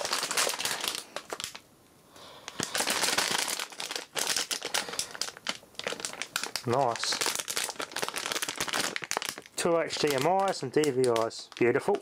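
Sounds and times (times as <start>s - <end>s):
plastic bag crinkling: 0.0s - 1.6s, 2.4s - 12.0s.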